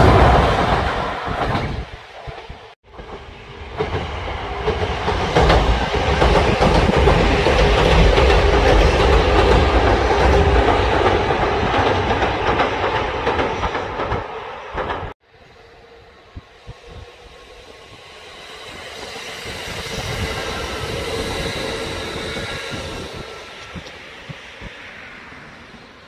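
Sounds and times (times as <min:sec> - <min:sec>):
electric train passing: 0:00.0 - 0:26.0
train approaching with whine: 0:00.0 - 0:26.0.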